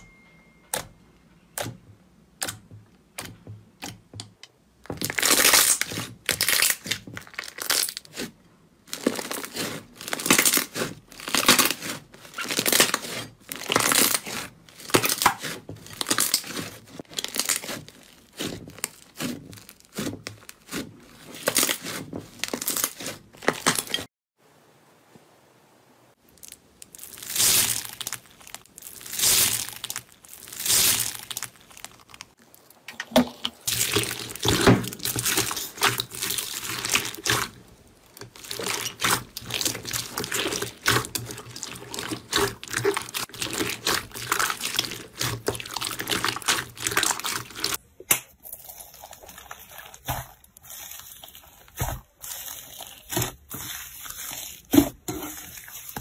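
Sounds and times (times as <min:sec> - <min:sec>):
slime squelching by hand: 0:04.8 - 0:24.1, 0:26.2 - 0:56.0.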